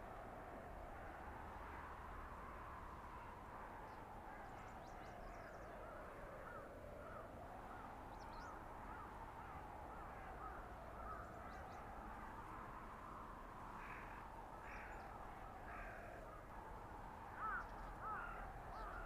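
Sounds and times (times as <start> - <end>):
howling blizzard wind: 0.0 - 19.0.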